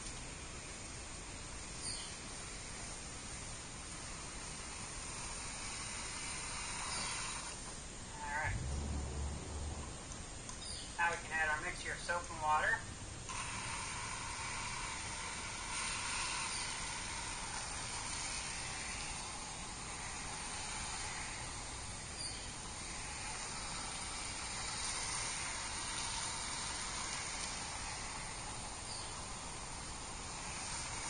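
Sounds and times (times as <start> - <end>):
hose spraying soapy water: 0.0 - 9.6, 13.3 - 31.0.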